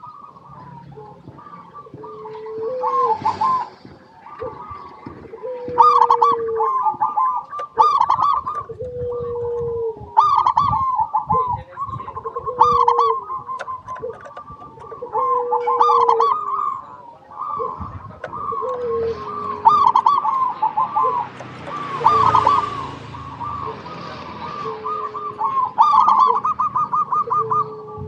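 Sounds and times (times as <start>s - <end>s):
dove cooing: 0.0s - 28.0s.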